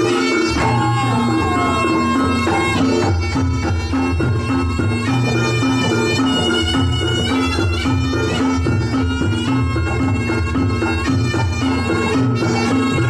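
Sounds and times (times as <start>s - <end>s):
drumming: 0.0s - 13.0s
reedy shawm melody: 0.0s - 13.0s.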